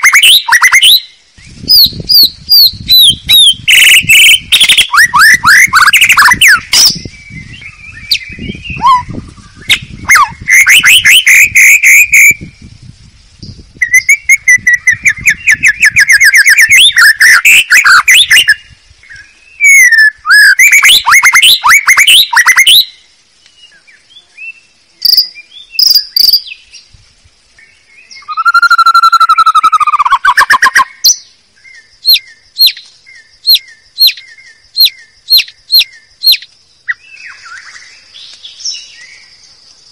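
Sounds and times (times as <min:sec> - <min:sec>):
bird song with whistled notes: 0:00.0 - 0:39.9.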